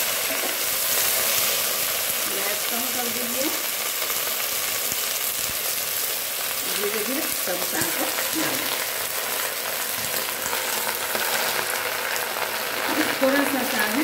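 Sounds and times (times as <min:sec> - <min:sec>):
leaves sizzling in hot oil: 0:00.0 - 0:14.0.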